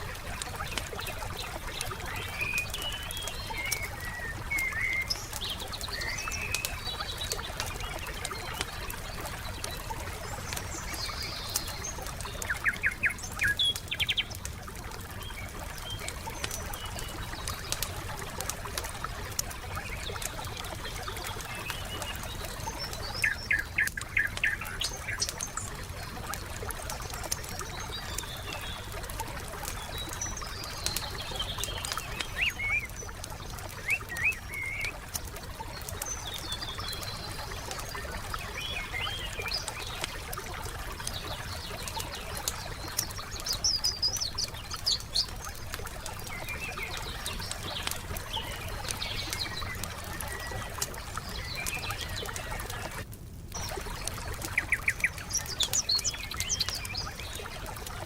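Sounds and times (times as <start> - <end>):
campfire crackling and popping: 0.0 - 58.0
forest birds chirping: 0.0 - 58.0.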